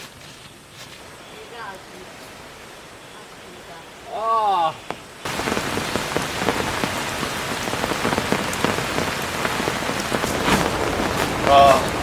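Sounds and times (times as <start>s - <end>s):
heavy rain pouring: 1.0s - 12.0s.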